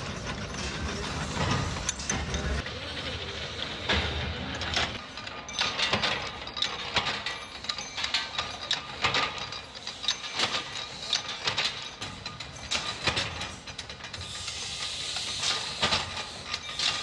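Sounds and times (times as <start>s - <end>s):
metal presses clanking: 0.0s - 2.6s, 3.5s - 17.0s.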